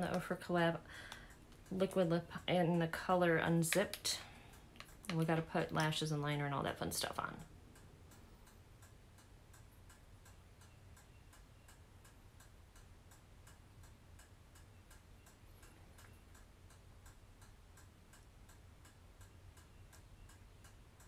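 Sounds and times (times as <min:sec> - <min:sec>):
faint mechanical ticking: 0:00.0 - 0:21.0
low steady hum: 0:00.0 - 0:21.0.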